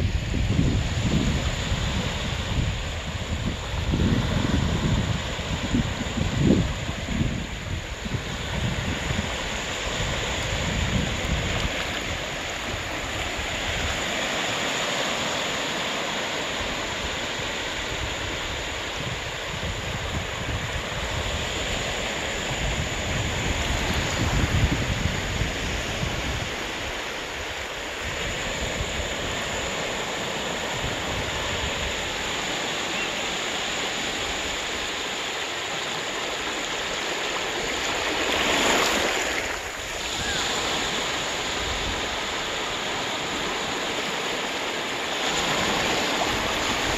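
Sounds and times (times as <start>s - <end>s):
small waves breaking on shore: 0.0s - 46.9s.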